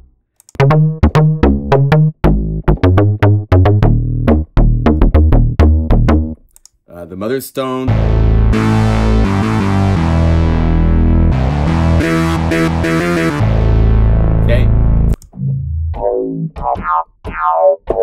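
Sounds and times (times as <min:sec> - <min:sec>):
deep synth bass notes: 0:00.0 - 0:06.5, 0:07.9 - 0:18.0
filtered synth bass sweep: 0:00.6 - 0:06.4, 0:07.9 - 0:18.0.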